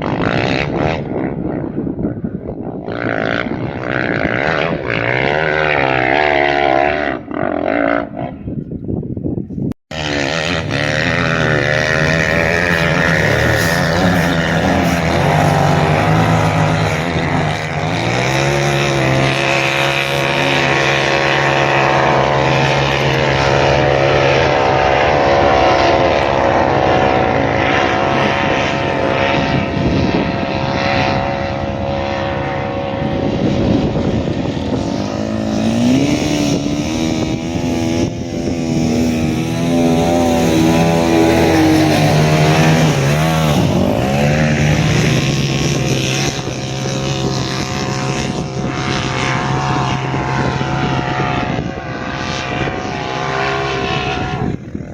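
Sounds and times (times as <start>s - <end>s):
off-road vehicle engine: 0.0s - 54.9s.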